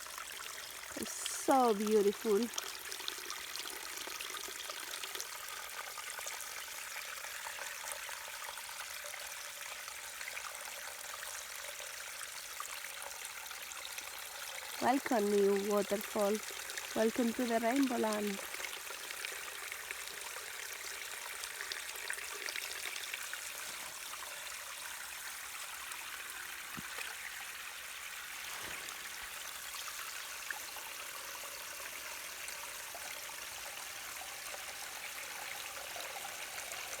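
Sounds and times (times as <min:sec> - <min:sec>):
small waterfall splashing: 0:00.0 - 0:37.0.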